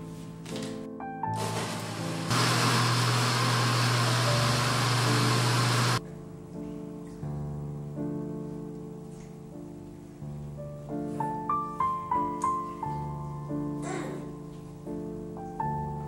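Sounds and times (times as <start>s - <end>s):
soft piano music: 0.0s - 2.3s, 3.6s - 16.0s.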